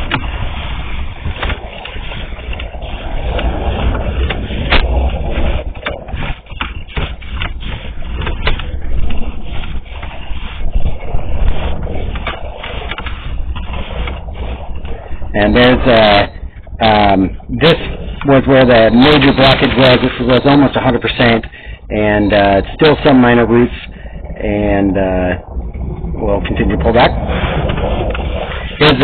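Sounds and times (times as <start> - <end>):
cable scraping and clicking: 0.0 - 29.0
low rumble: 0.0 - 29.0.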